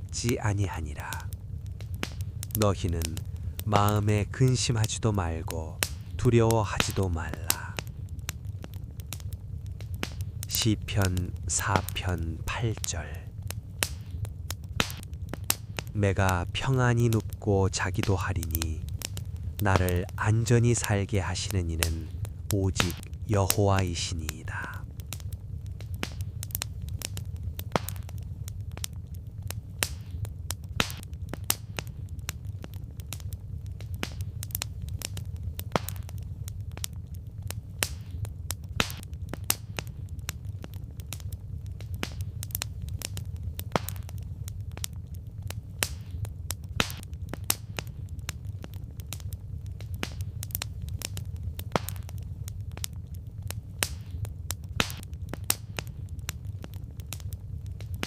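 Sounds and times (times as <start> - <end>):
campfire crackling: 0.0 - 58.0
low rumble of flames: 0.0 - 58.0.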